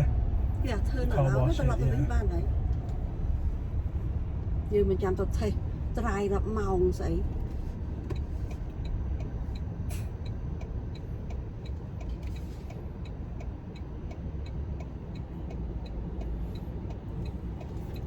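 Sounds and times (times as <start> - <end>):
road and engine rumble: 0.0 - 18.0
turn signal ticking: 0.0 - 18.0.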